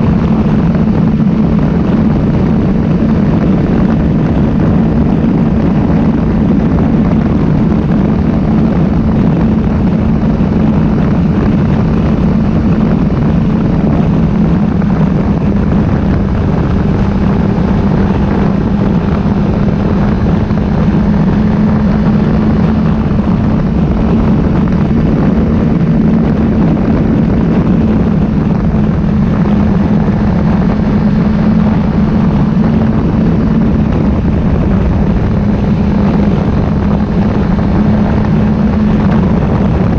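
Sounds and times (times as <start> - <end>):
motorcycle engine hum: 0.0 - 39.9
wind and road noise: 0.0 - 39.9.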